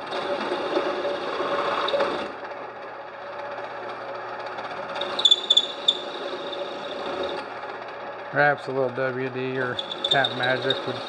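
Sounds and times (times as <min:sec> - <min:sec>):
drill press running: 0:00.0 - 0:11.0.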